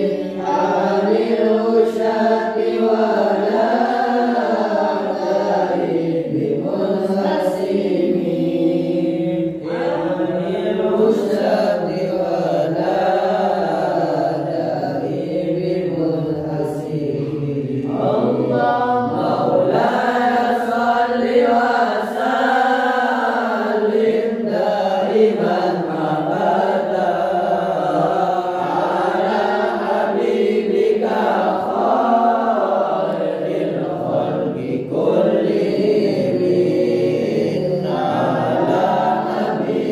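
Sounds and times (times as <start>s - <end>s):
men and boys chanting: 0.0s - 39.9s.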